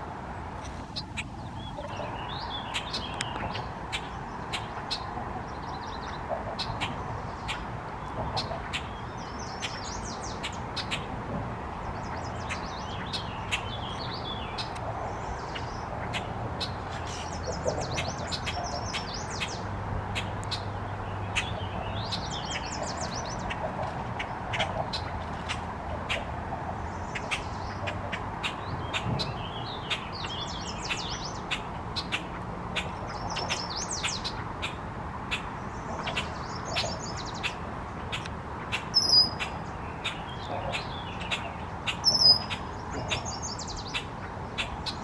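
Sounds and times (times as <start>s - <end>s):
warbling bird song: 0.8s - 11.1s, 11.7s - 45.0s.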